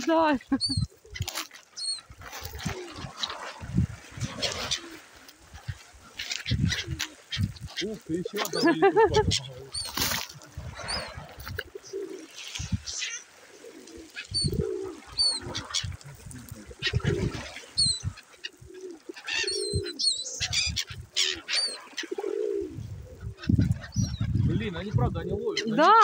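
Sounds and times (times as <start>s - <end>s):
gulls calling: 0.0s - 26.0s
pigeons cooing: 0.0s - 26.0s.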